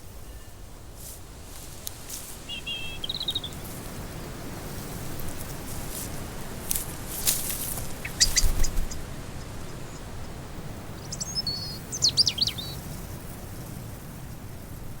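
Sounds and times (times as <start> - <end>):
small songbirds chirping: 0.0 - 15.0
steady outdoor background hiss: 0.0 - 15.0.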